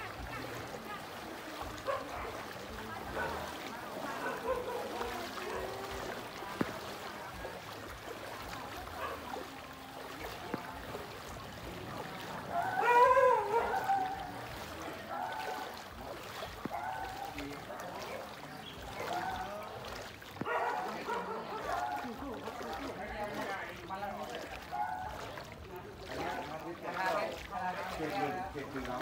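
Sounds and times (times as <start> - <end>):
faint voices: 0.0 - 29.0
wading through water sloshing: 0.0 - 29.0.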